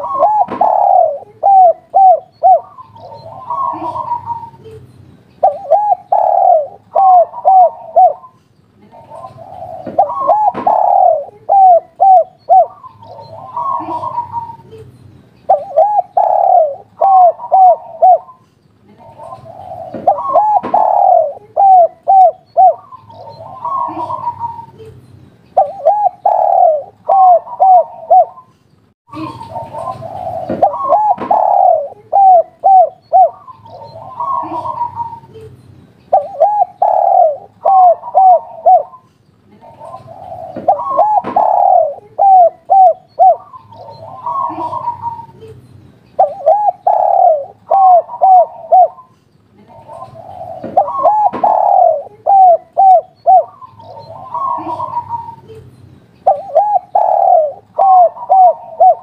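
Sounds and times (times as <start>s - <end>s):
dove cooing: 0.0s - 4.8s, 5.4s - 14.8s, 15.5s - 18.4s, 19.0s - 24.9s, 25.6s - 28.5s, 29.2s - 35.5s, 36.1s - 45.6s, 46.2s - 49.1s, 49.7s - 55.6s, 56.2s - 59.0s.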